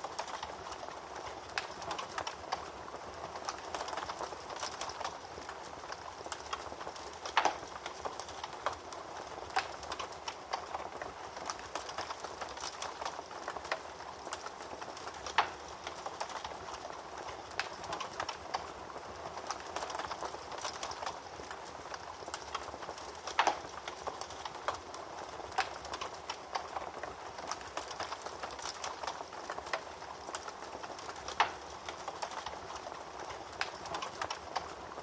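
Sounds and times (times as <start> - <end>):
fire pops and snaps: 0.0 - 35.0.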